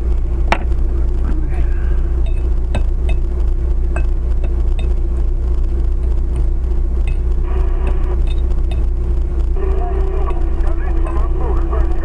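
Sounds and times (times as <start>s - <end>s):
car interior road noise: 0.0s - 12.0s.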